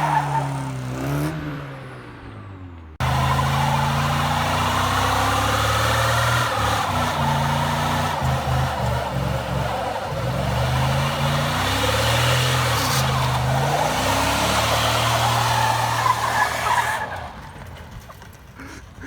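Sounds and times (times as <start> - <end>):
car engine revving: 0.0 - 17.9
tire noise: 0.0 - 19.0.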